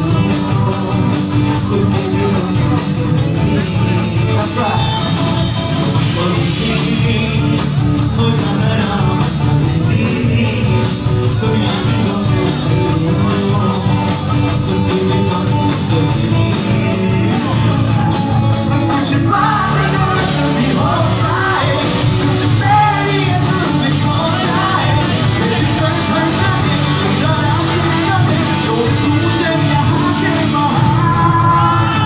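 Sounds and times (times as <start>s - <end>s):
drums: 0.0s - 32.0s
electric guitars: 0.0s - 32.0s
person singing: 0.0s - 32.0s.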